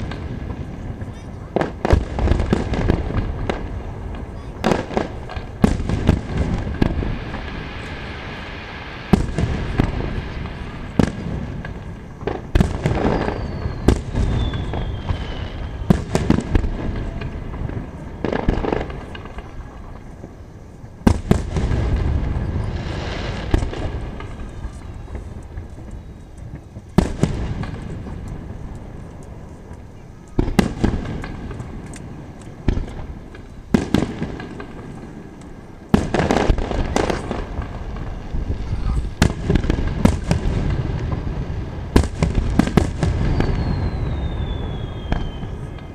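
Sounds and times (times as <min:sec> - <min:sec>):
fireworks bursting: 0:00.0 - 0:45.9.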